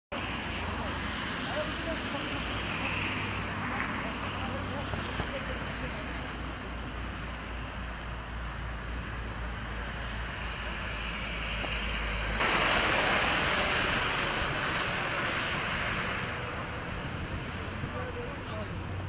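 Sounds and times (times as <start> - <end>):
low hum of vehicles: 0.1 - 19.0
wind rushing over microphone: 0.1 - 19.0.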